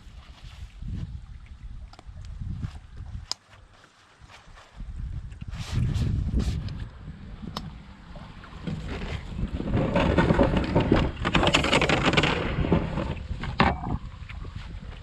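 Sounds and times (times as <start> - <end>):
wind buffeting microphone: 0.0 - 3.3, 4.5 - 15.0.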